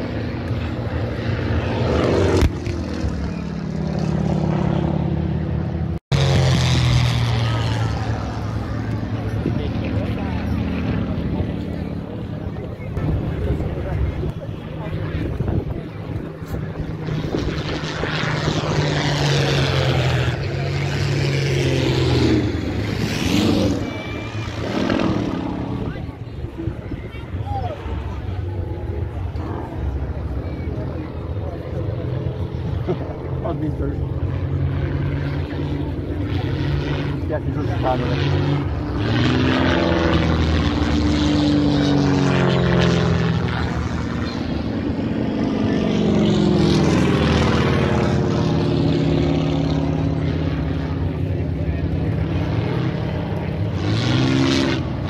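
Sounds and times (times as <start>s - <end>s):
propeller aircraft flying past: 0.0s - 55.0s.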